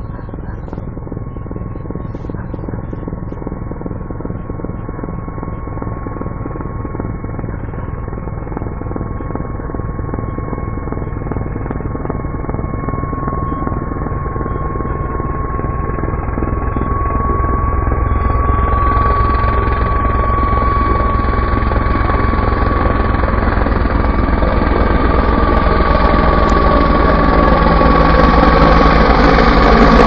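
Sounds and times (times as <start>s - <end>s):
helicopter rotor beating: 0.0s - 30.0s
turbine whine: 0.0s - 30.0s.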